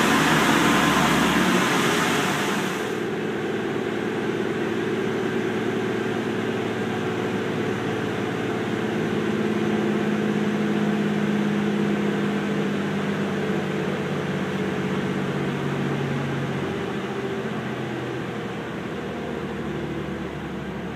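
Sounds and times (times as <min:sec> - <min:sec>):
diesel engine under full load: 0:00.0 - 0:20.9.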